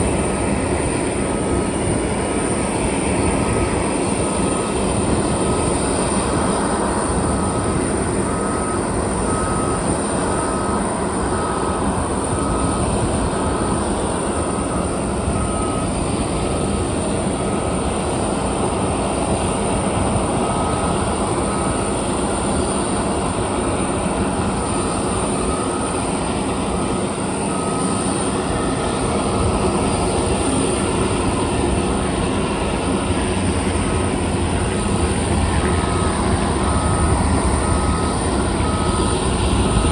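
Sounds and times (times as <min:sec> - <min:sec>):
aircraft turbine engine whine: 0:00.0 - 0:39.9.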